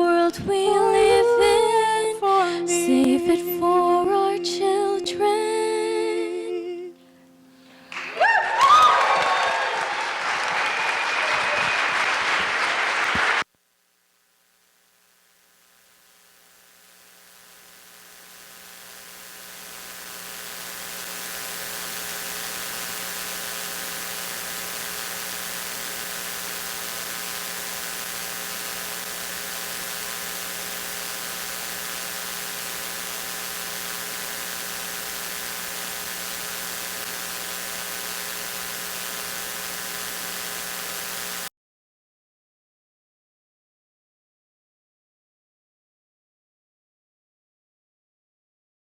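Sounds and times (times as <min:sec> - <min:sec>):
electrical hum and hiss: 0:00.0 - 0:41.5.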